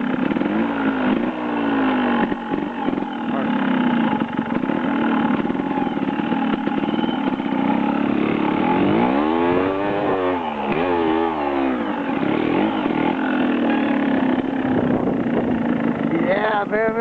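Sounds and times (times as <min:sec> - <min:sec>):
small engine passing by: 0:00.0 - 0:17.0.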